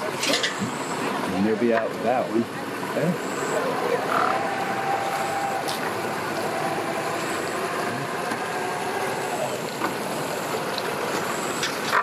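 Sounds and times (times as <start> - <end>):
faint steady tones: 0.0 - 12.0
outboard motors idling: 0.0 - 12.0.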